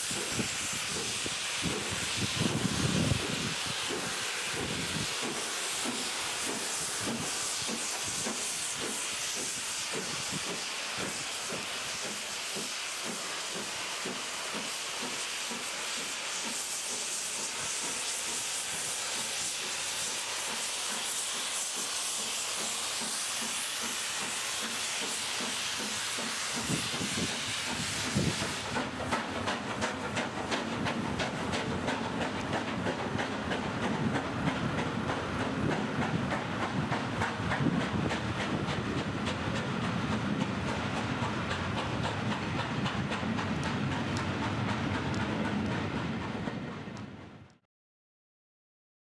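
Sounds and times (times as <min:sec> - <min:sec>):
train wheels clattering on rail joints: 0:00.0 - 0:47.5
steam locomotive hiss and exhaust: 0:00.0 - 0:47.6.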